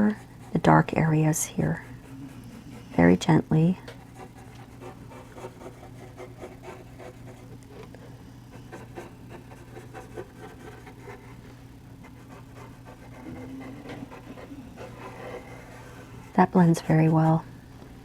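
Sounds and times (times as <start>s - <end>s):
paintbrush scratching on paper: 0.0s - 7.5s, 8.5s - 17.5s
steady low hum: 0.0s - 18.0s.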